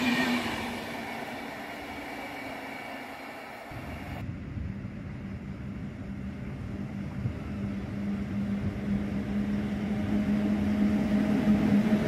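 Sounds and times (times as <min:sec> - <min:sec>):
locomotive hum and rumble: 0:00.0 - 0:12.0.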